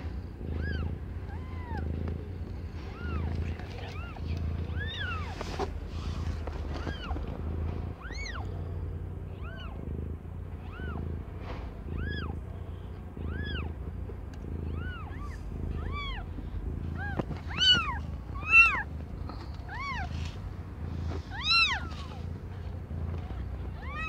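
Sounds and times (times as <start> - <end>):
kitten mewing: 0.4 - 7.3, 7.9 - 10.0, 10.6 - 11.2, 11.8 - 13.8, 14.4 - 24.0.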